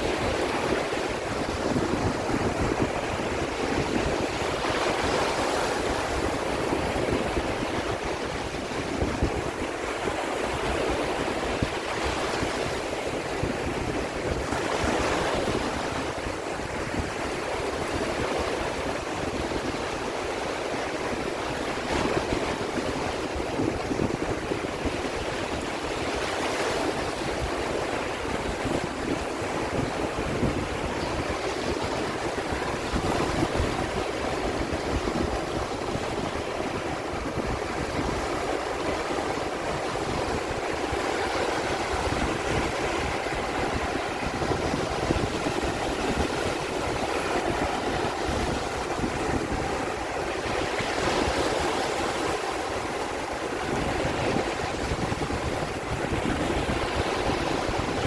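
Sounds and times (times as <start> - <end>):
sea waves washing: 0.0 - 58.0
wind rumbling on microphone: 0.0 - 58.0.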